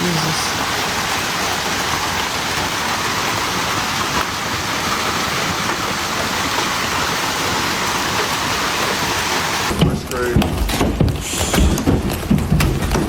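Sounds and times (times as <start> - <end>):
hail and heavy rain pelting: 0.0 - 13.0.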